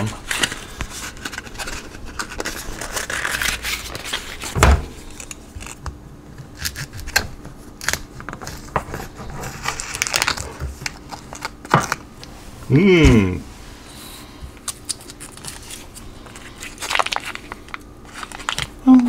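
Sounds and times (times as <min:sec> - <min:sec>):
foil wrapper crinkling: 0:00.0 - 0:05.8, 0:06.4 - 0:12.1, 0:14.6 - 0:19.0.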